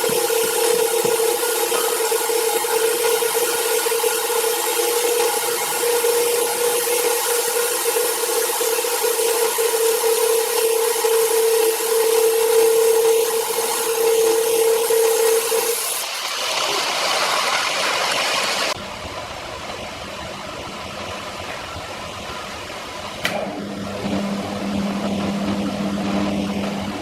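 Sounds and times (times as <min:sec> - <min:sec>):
sawmill machinery humming: 0:00.0 - 0:27.0.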